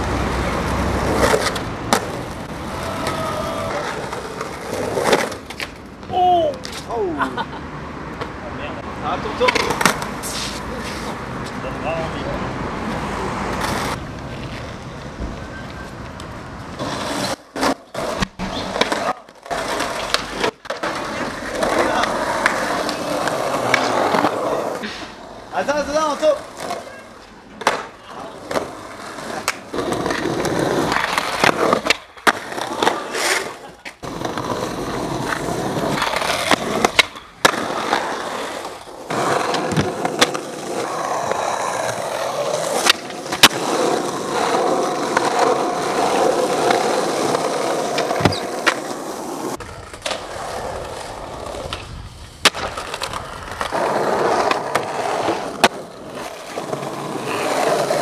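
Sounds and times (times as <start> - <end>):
skateboard popping and landing: 0.0 - 7.0, 9.4 - 11.2, 13.5 - 58.0
skateboard wheels rolling on concrete: 0.0 - 58.0.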